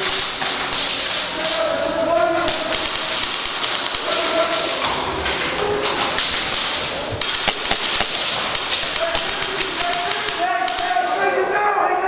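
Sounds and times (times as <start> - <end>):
airsoft guns firing: 0.0 - 11.3.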